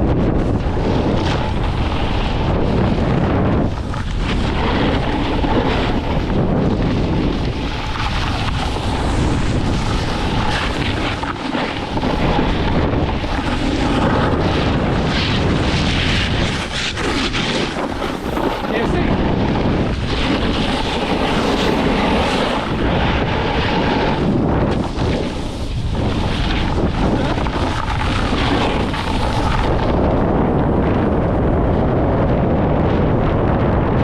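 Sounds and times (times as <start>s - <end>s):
snowboard sliding over snow: 0.0s - 34.0s
wind buffeting microphone: 0.0s - 34.0s.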